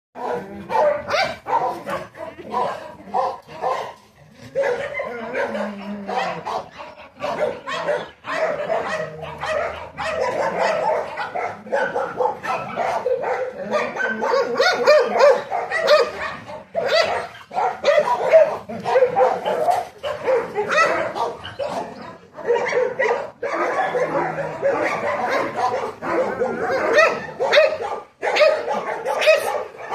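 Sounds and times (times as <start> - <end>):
dogs barking and yipping: 0.2 - 29.9.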